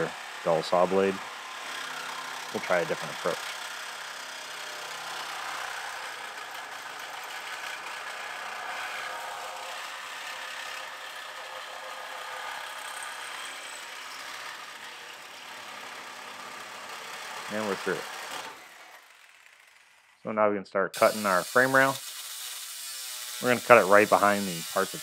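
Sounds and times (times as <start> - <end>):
reciprocating saw cutting steel: 0.0 - 20.2, 21.0 - 25.0.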